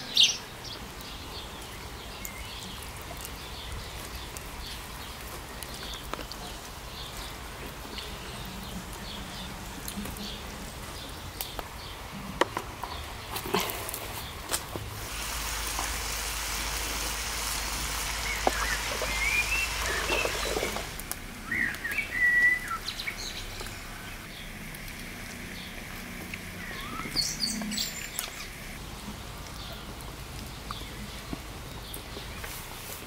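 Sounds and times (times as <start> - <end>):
small birds chirping: 0.0 - 14.9, 15.5 - 33.0.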